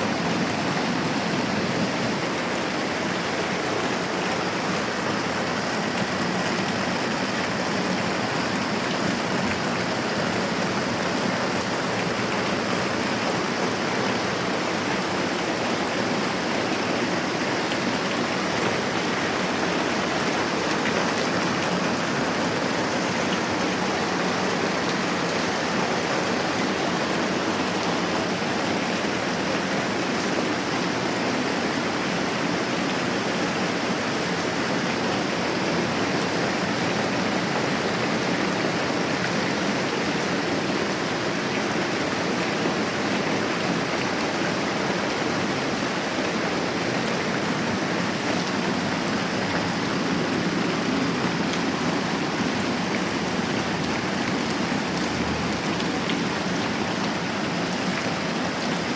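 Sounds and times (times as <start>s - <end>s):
rain falling steadily: 0.0s - 58.9s.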